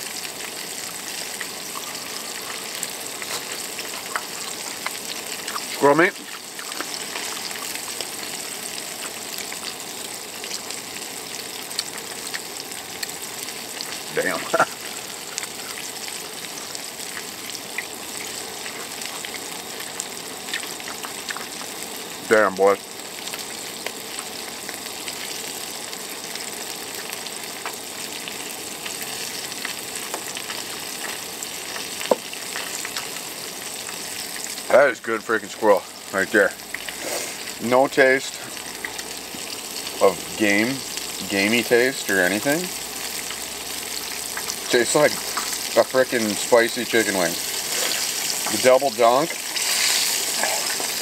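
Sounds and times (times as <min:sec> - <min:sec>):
hot oil sizzling: 0:00.0 - 0:51.0.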